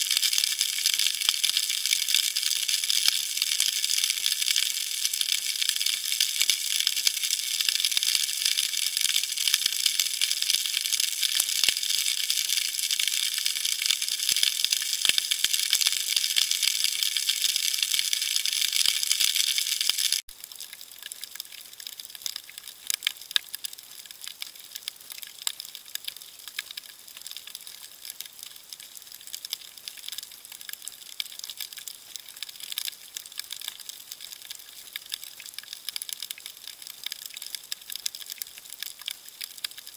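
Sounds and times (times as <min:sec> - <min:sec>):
dense crackle of sharp clicks: 0:00.0 - 0:39.9.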